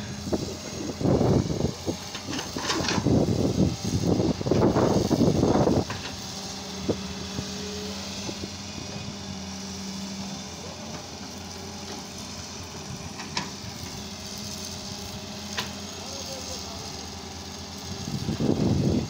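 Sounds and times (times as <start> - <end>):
soil loading into trailer: 0.0 - 3.6, 4.4 - 16.1
diesel engines running: 0.0 - 19.0.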